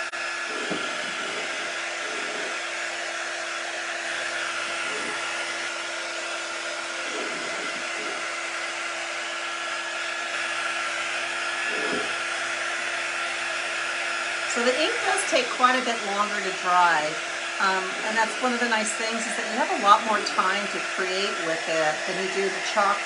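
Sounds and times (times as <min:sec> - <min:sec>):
heat tool blowing air: 0:00.0 - 0:23.0.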